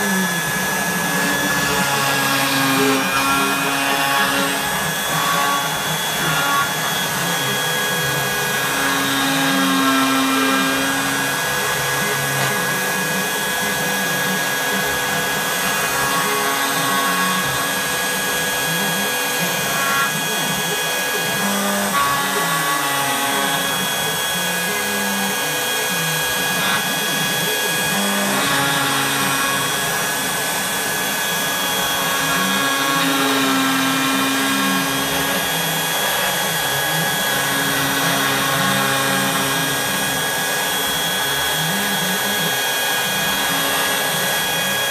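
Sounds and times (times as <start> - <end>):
router spindle whining: 0.0 - 44.9
stepper motors whining: 0.0 - 44.9.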